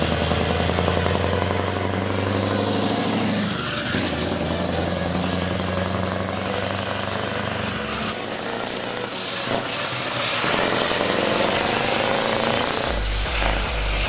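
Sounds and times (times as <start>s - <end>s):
heavy truck diesel engine passing: 0.0s - 14.0s.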